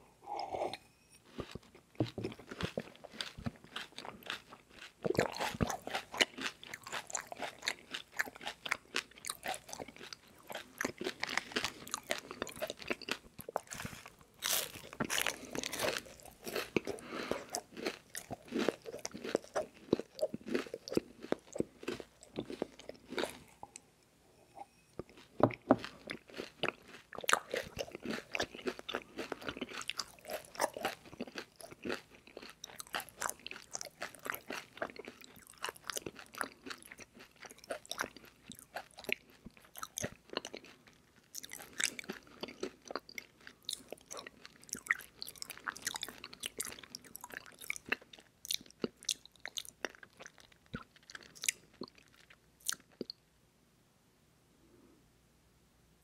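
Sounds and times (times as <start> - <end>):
person chewing crunchy food: 0.3 - 23.8, 25.0 - 53.2.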